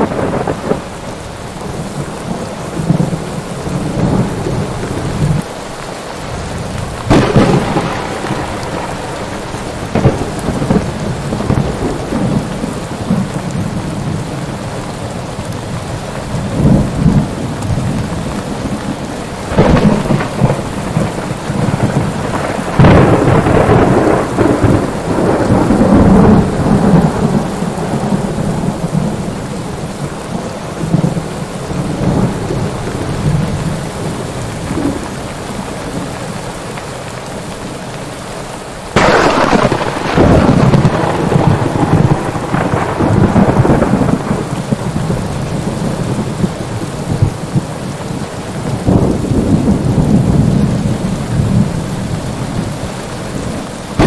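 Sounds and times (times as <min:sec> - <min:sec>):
thunder rumbling and cracking: 0:00.0 - 0:05.5, 0:06.2 - 0:36.2, 0:38.9 - 0:54.0
heavy rain: 0:00.0 - 0:54.0.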